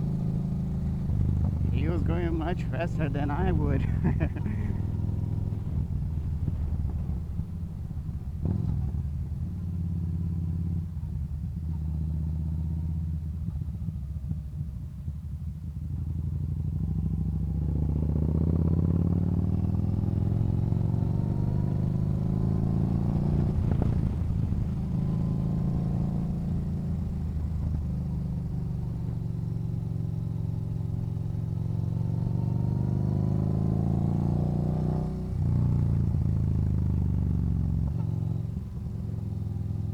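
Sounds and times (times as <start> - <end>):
motorcycle engine accelerating: 0.0 - 14.3, 16.2 - 39.9.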